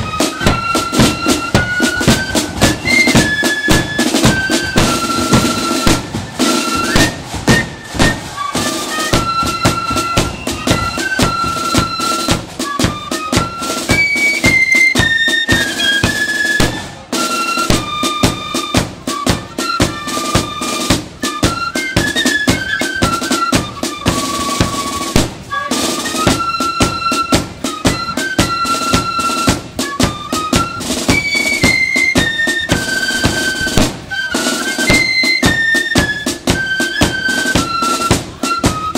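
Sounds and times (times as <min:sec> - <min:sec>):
flute melody: 0:00.0 - 0:38.9
snare and bass drums: 0:00.0 - 0:38.9.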